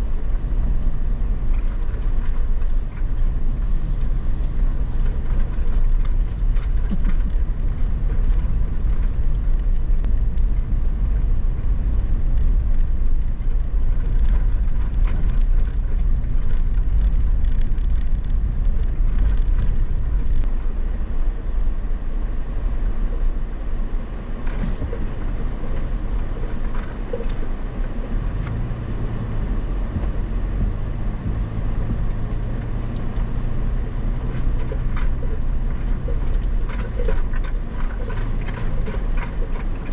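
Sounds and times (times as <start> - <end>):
gravel clicks and knocks: 0.0 - 20.6, 24.4 - 39.9
off-road vehicle engine and rumble: 0.0 - 39.9.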